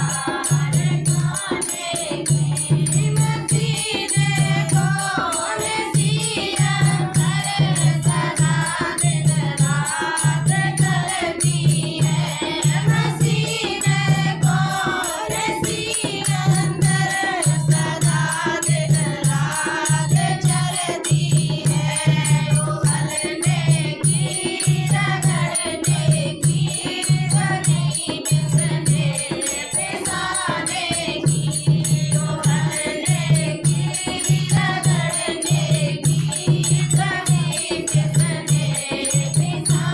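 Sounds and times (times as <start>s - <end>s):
jingling percussion: 0.0s - 39.9s
women singing devotional song: 0.0s - 39.9s.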